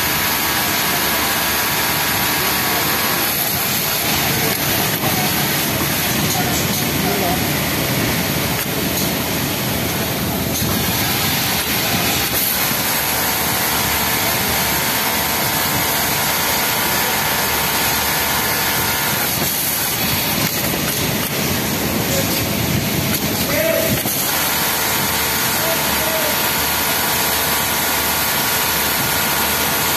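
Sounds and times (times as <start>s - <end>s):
loud machinery hiss: 0.0s - 29.9s.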